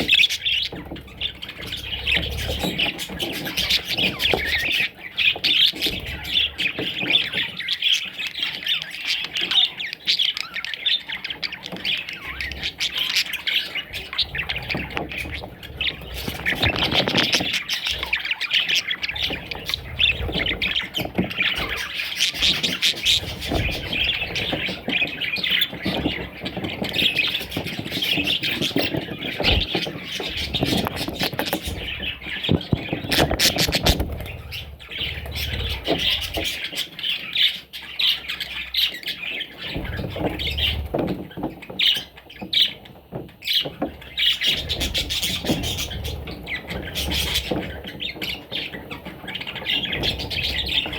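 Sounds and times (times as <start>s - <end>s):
budgerigars chattering and squawking: 0.0s - 50.9s.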